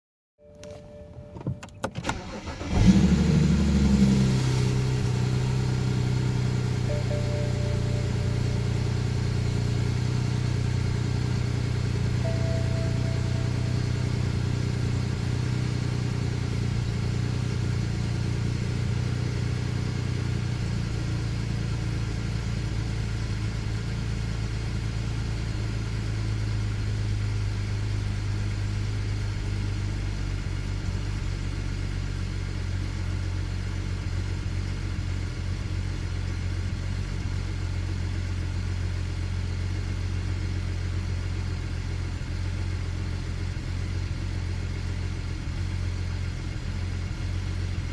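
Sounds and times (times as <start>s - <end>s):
car engine idling unevenly: 0.6s - 47.9s.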